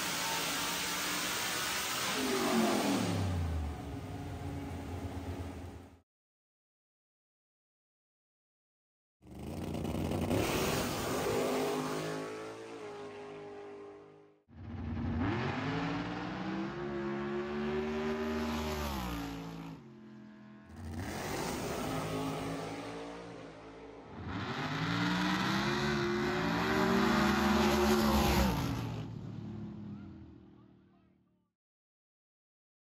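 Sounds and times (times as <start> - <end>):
drag racing cars at full throttle: 0.0 - 6.0, 9.2 - 31.0.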